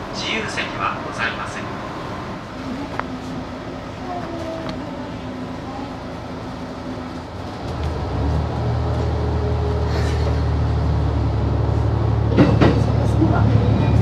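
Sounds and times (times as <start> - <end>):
train engine drone: 0.0 - 14.0.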